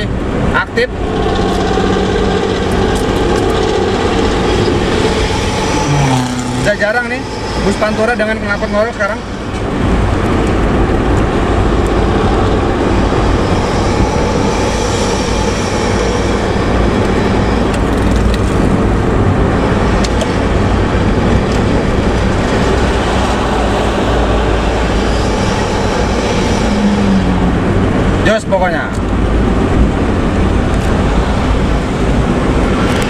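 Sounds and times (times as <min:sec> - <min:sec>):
bus engine with rough exhaust: 0:00.0 - 0:33.0.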